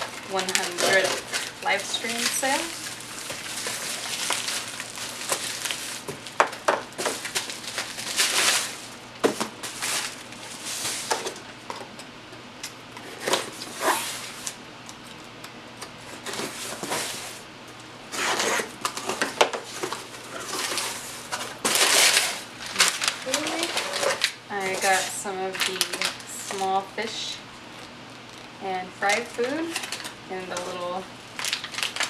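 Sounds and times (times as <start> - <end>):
packaging rustling and crinkling: 0.0 - 12.0, 13.0 - 14.6, 16.0 - 17.5, 18.1 - 26.7, 27.7 - 32.0.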